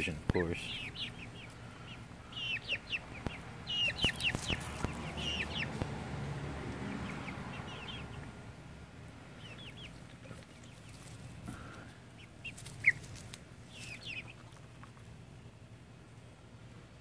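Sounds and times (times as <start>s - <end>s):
chicks peeping: 0.0s - 6.0s, 6.6s - 15.6s.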